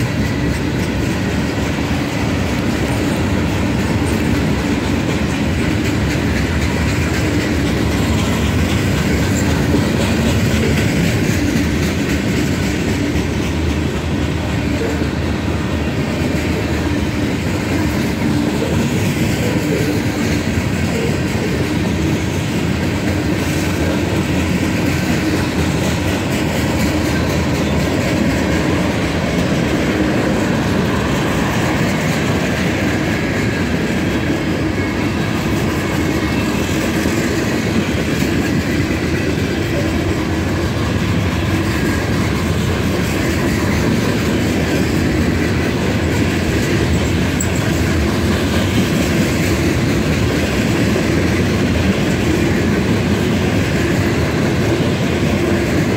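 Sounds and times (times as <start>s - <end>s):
train wheels rumbling on rail: 0.0s - 55.9s
wheels clicking over rail joints: 0.0s - 55.9s.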